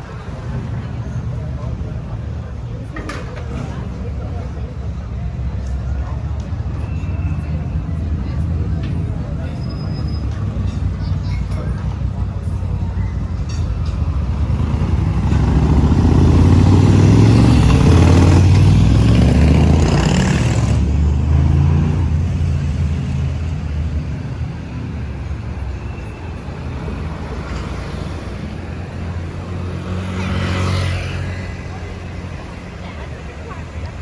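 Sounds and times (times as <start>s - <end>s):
vehicle engine humming: 0.0s - 34.0s.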